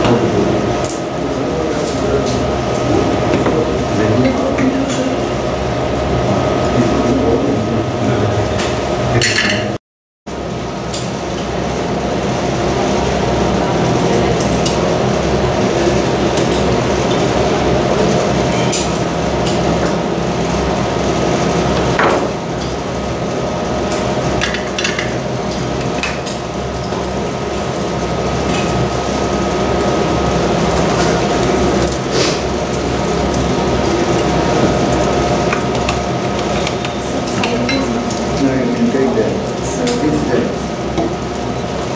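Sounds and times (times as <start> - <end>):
fan hum with constant tones: 0.0 - 41.9.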